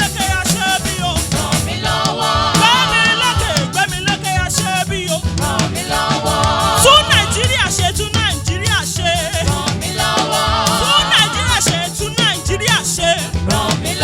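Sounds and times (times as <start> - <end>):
band with bass and drums: 0.0 - 14.0
gospel singing voices: 0.0 - 14.0.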